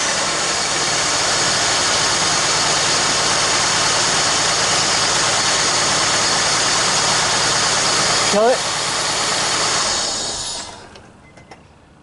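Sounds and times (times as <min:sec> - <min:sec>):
car engine running: 0:00.0 - 0:11.0
power steering pump whine: 0:00.0 - 0:11.6.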